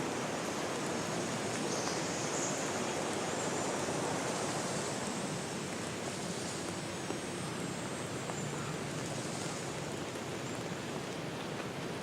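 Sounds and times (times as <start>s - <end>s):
outdoor nature ambience rushing: 0.0s - 12.0s.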